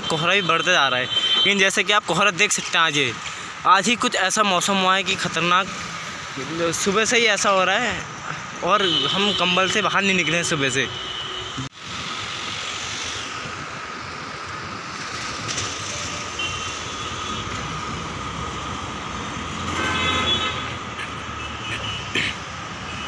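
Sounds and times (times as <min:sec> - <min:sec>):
town traffic noise: 0:00.0 - 0:23.0.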